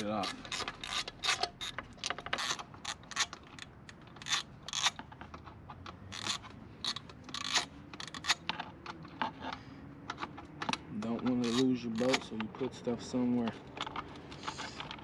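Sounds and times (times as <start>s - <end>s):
metallic clicks and scrapes: 0.0s - 15.0s.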